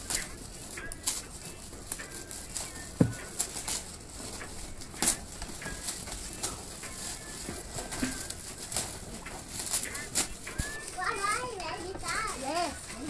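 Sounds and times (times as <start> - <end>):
foil gift wrap crinkling and ripping: 0.0 - 13.0.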